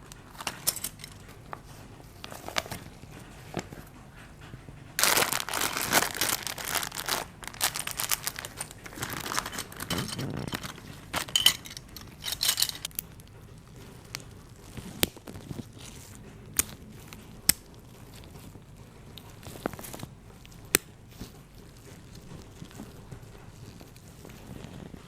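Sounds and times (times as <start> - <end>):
plastic packaging crinkling: 0.0 - 4.2, 5.0 - 25.0.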